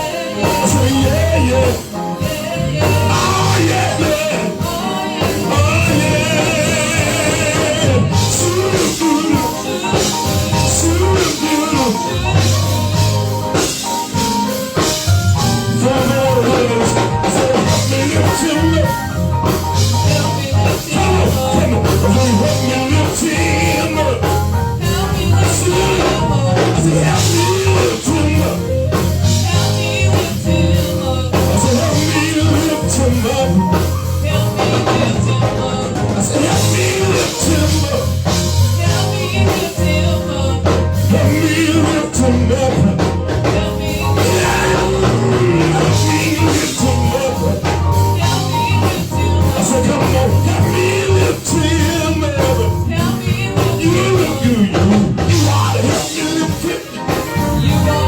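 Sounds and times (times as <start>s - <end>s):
gospel band playing: 0.0s - 58.0s
person singing: 0.0s - 58.0s.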